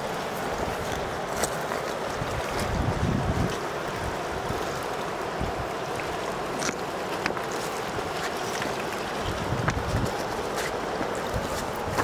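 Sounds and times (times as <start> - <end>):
river rushing over stones: 0.0 - 12.0
wind rumble on microphone: 0.0 - 12.0.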